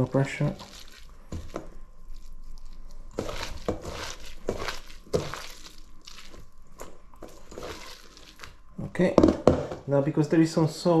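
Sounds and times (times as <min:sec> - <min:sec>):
wet squishing of mixing in bowl: 0:00.0 - 0:10.0.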